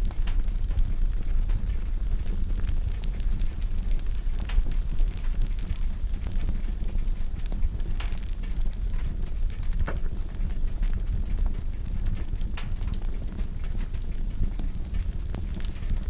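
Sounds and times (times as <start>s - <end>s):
fire rumbling: 0.0s - 16.0s
wood fire crackling and popping: 0.0s - 16.0s.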